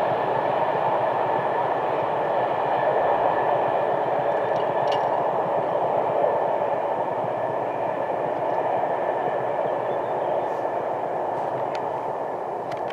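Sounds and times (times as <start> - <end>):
freight train rumbling: 0.0 - 12.9.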